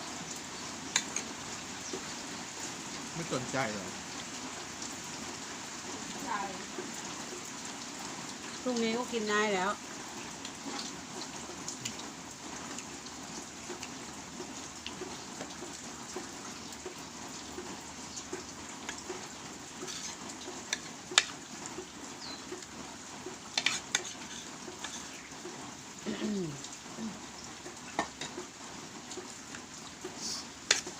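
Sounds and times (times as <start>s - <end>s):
rain hiss: 0.0s - 30.9s.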